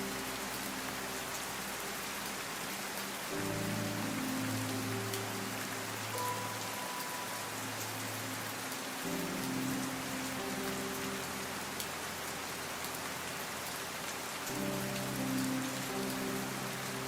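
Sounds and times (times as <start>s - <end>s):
rain drop ticks: 0.0s - 17.0s
soft low music notes: 0.0s - 17.0s
steady rain falling: 0.0s - 17.0s.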